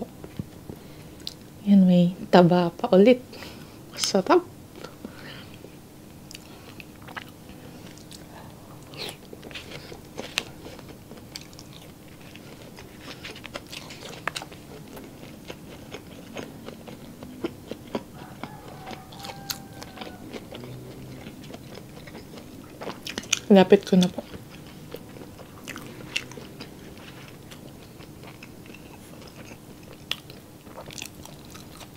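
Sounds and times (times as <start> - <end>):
person chewing: 6.3 - 31.9.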